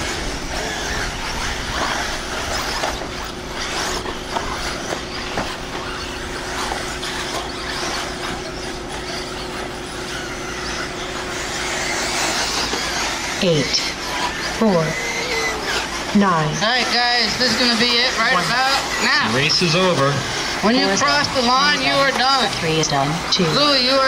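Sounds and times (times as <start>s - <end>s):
rc car motors hissing: 0.0s - 24.0s.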